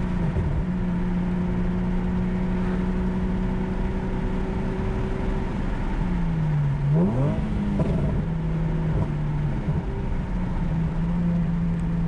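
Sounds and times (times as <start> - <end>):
car engine drone while driving: 0.0 - 12.0.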